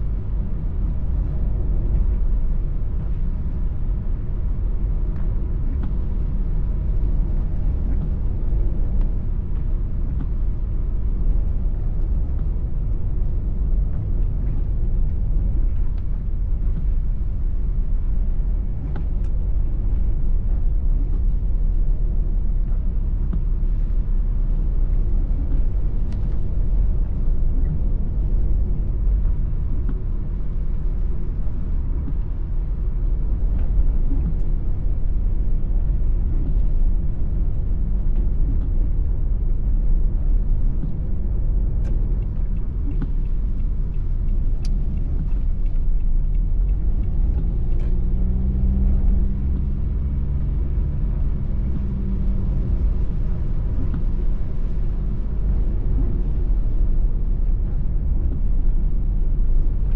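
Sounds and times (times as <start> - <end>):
car driving on wet road: 0.0 - 59.9.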